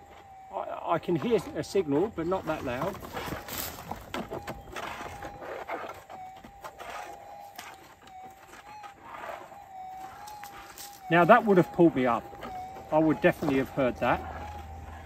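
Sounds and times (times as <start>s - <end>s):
crunching of dry leaves: 0.0s - 15.0s.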